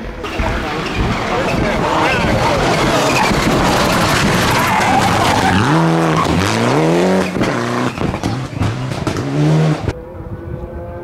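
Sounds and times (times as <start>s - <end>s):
rally car passing at speed: 0.3s - 11.0s
engine revving hard: 0.4s - 9.9s.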